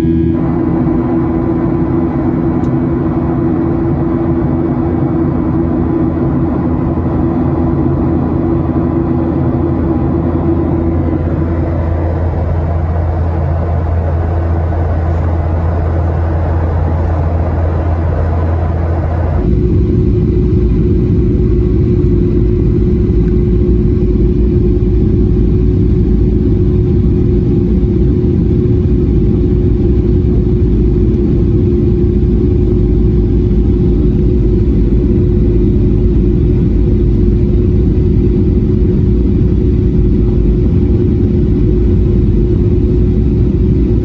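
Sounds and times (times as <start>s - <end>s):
faint steady hum: 0.0s - 44.0s
jet engines droning: 0.0s - 44.0s
rushing air in cabin: 0.0s - 44.0s.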